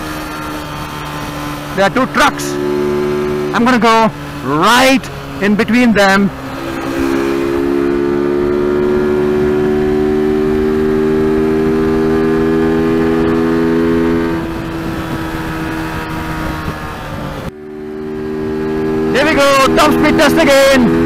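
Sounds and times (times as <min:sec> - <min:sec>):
motorcycle engine accelerating: 0:00.0 - 0:21.0
wind rush: 0:00.2 - 0:19.8.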